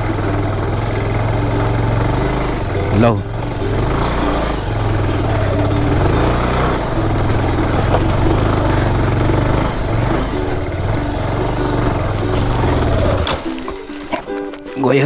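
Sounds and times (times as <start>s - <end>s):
motorcycle engine under load: 0.0s - 15.0s.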